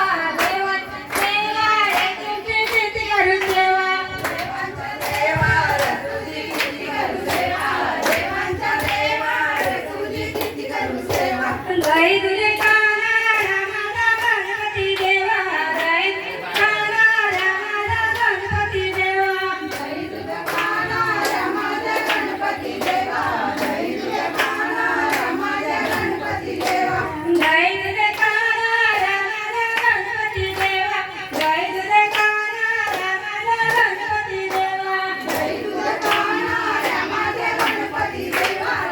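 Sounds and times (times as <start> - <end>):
hand clapping: 0.0 - 38.9
woman singing devotional song: 0.0 - 38.9.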